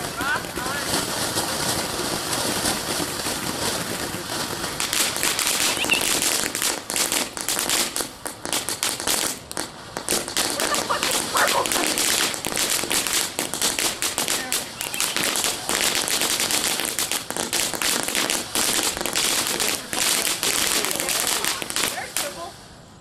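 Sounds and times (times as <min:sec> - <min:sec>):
firework hissing and crackling: 0:00.0 - 0:23.0.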